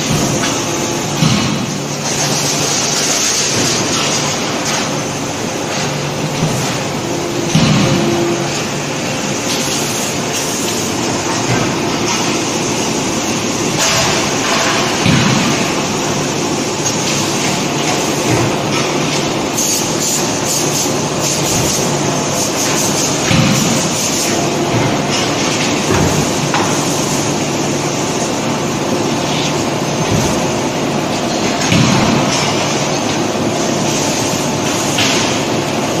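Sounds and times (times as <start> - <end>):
forging press machinery din: 0.0 - 36.0.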